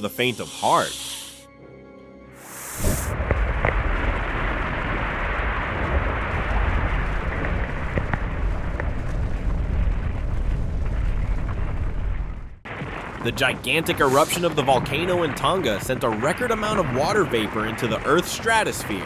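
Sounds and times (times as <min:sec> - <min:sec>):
volcanic eruption rumbling roar: 0:02.5 - 0:19.0.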